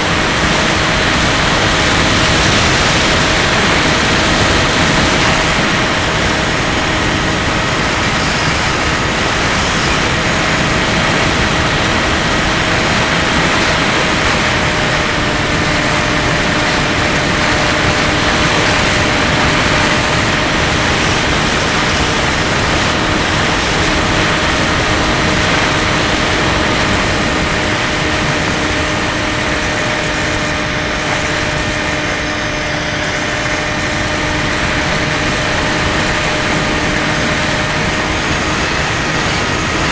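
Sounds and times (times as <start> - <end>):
model plane motor humming: 0.0 - 39.9
wind noise: 0.0 - 39.9.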